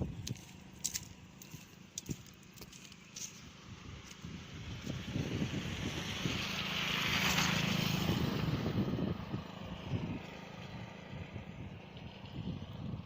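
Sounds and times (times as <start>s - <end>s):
road and wind rumble: 0.0s - 13.0s
vehicle engine hum: 0.0s - 13.0s.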